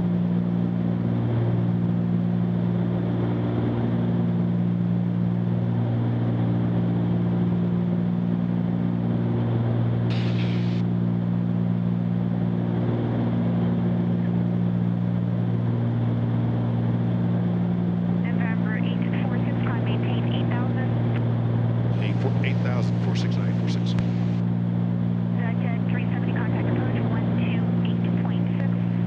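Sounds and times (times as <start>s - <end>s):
aircraft piston engines droning: 0.2s - 29.0s.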